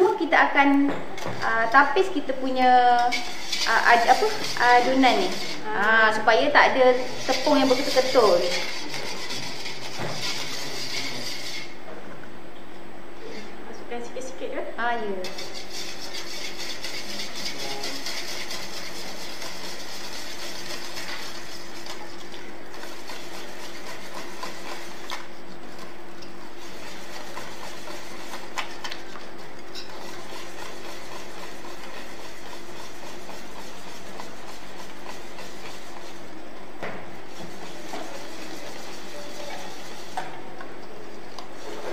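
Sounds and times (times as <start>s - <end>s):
whisk scraping in metal bowl: 1.4s - 11.8s, 15.1s - 36.4s, 37.2s - 40.4s.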